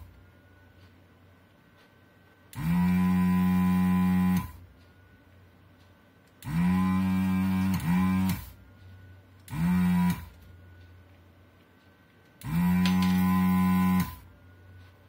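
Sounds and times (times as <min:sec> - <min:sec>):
desoldering pump humming: 0:00.0 - 0:15.0.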